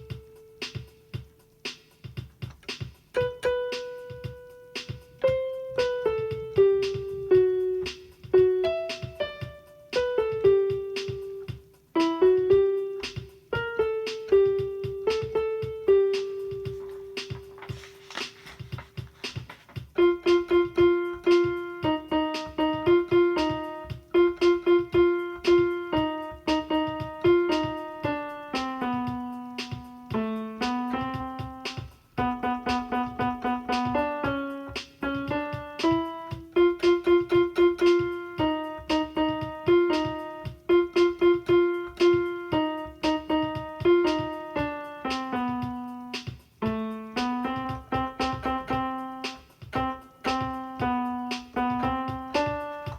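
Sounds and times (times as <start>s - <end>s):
piano playing lively melody: 0.0s - 52.9s.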